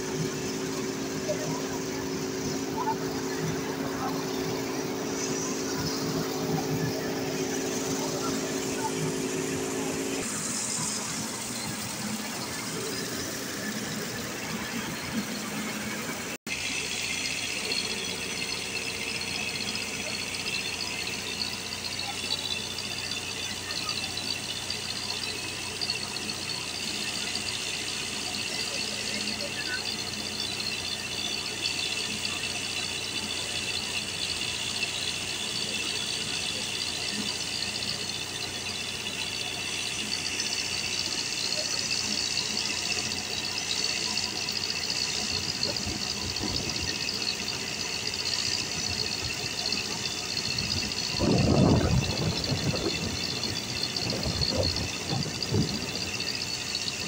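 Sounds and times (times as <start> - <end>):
rice mill running: 0.0 - 57.0.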